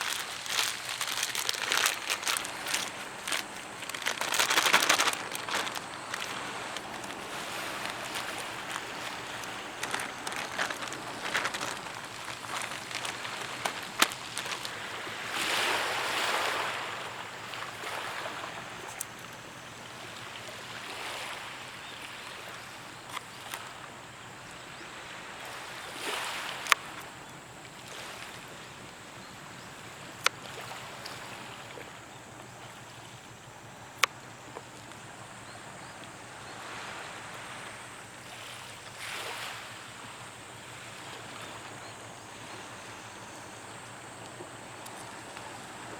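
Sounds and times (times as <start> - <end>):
waves washing on a beach: 0.0 - 45.9.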